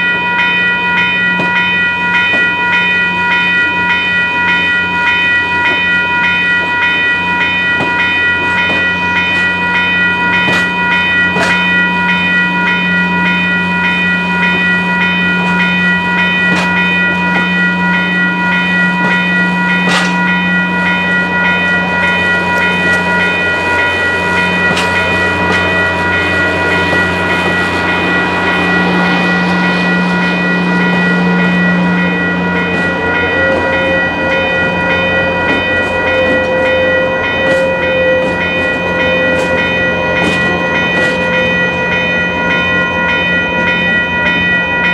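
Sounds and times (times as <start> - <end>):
ringing tones: 0.0 - 44.9
train running on rails: 0.0 - 44.9.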